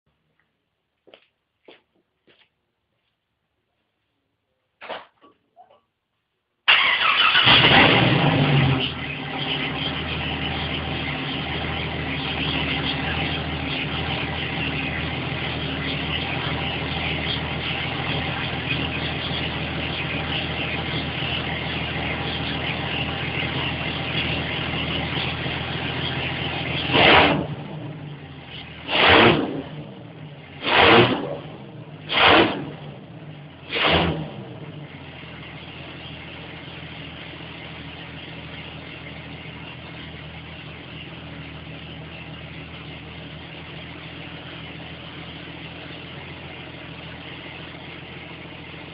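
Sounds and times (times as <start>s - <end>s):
car engine starting and revving: 6.7s - 48.9s.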